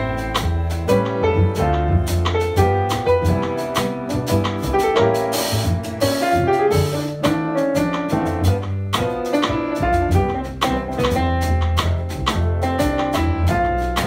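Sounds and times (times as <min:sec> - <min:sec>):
jazz piano melody: 0:00.0 - 0:14.0
plucked upright bass: 0:00.0 - 0:14.0
soft drums and cymbal: 0:00.0 - 0:14.0.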